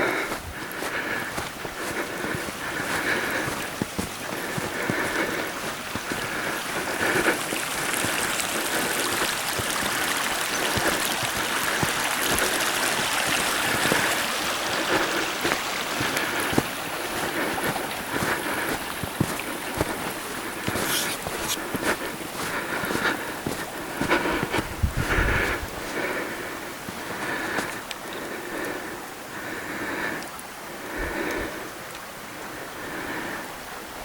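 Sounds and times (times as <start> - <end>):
creek water rushing over rocks: 0.0 - 34.0.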